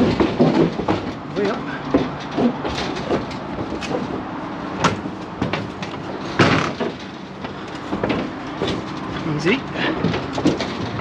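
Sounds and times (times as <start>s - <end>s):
hooves clanking on metal: 0.0s - 11.0s.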